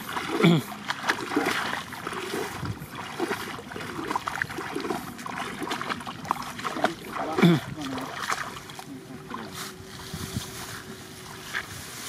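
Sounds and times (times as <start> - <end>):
water sloshing around legs: 0.0 - 12.0.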